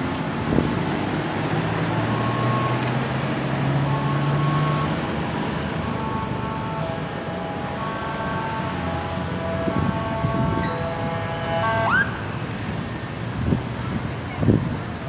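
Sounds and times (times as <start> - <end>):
road traffic noise: 0.0 - 15.0
large vehicle engine pulling away: 0.2 - 13.6.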